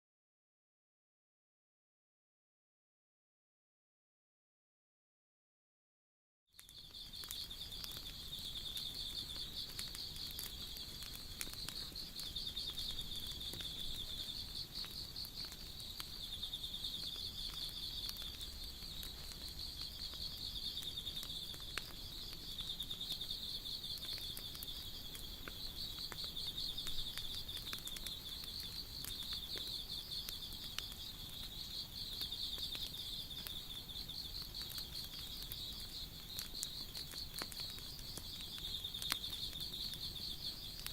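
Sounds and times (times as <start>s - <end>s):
insects trilling: 6.6s - 40.9s
wood fire crackling and popping: 6.6s - 40.9s.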